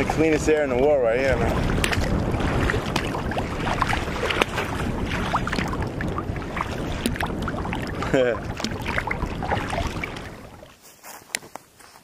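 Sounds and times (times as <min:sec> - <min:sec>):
water splashing against kayak: 0:00.0 - 0:10.8
wind rumbling on microphone: 0:00.0 - 0:10.9.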